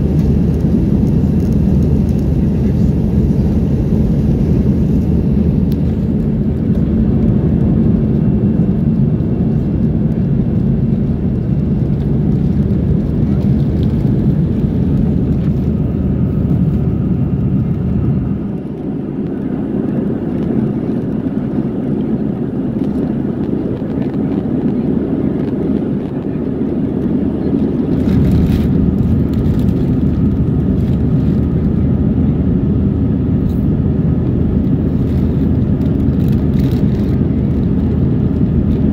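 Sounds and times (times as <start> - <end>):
heavy steady cabin rumble: 0.0 - 38.9
jet engines at high thrust: 0.0 - 38.9.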